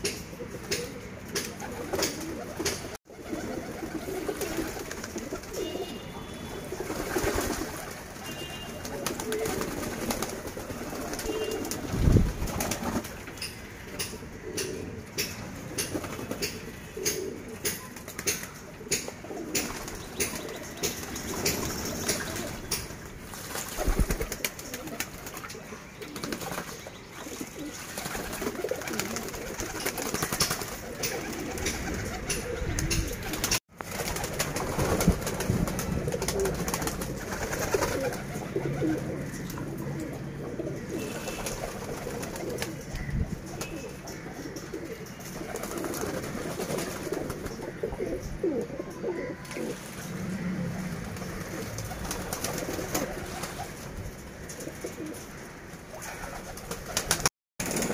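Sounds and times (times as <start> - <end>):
pigeons cooing: 0.0 - 57.9
wings flapping: 0.6 - 5.9, 6.6 - 13.3, 15.5 - 40.1, 40.9 - 44.3, 45.3 - 47.8, 49.4 - 57.9.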